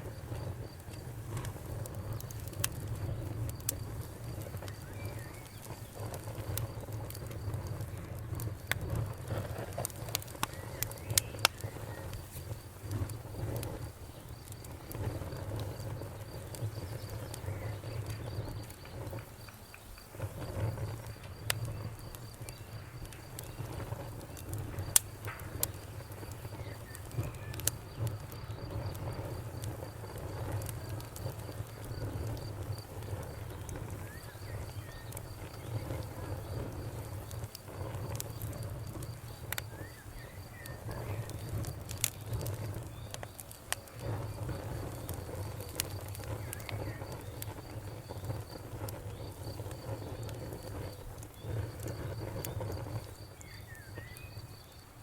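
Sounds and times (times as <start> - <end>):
flames rumbling: 0.0 - 55.0
sharp fire pops and snaps: 0.0 - 55.0.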